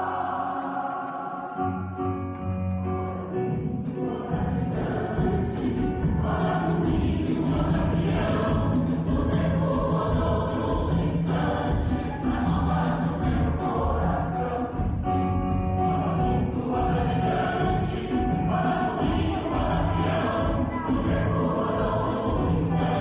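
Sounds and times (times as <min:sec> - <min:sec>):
mixed choir singing: 0:00.0 - 0:23.0
rhythmic percussion beat: 0:00.0 - 0:23.0.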